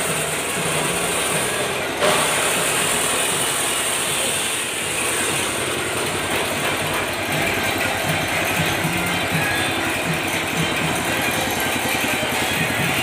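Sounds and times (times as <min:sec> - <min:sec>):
angle grinder on metal: 0:00.0 - 0:13.0
small petrol engine running: 0:00.0 - 0:13.0.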